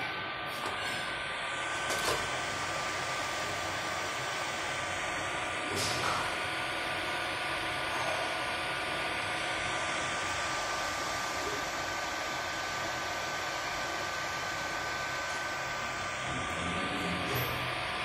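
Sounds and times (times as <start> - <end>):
printer fan whir: 0.0 - 18.0.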